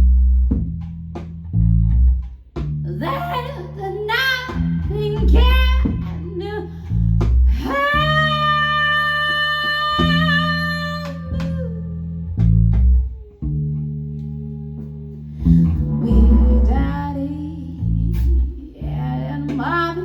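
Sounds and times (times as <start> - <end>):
electric bass: 0.0 - 20.0.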